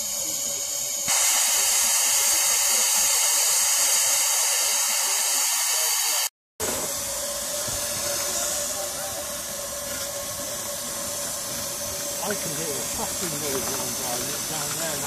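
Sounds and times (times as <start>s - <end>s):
steam hissing from locomotive: 0.0s - 15.0s.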